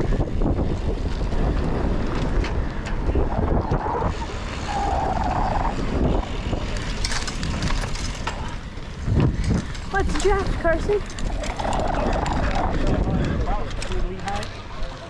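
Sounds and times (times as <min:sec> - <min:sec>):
wind buffeting microphone: 0:00.0 - 0:14.4
bike clicking and rattling: 0:00.0 - 0:15.0
bike tyres rumbling on gravel: 0:00.0 - 0:15.0.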